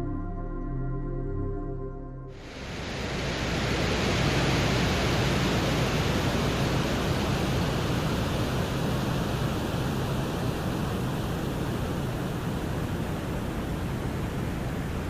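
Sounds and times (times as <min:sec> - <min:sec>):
steady rushing hiss: 0:02.4 - 0:15.0.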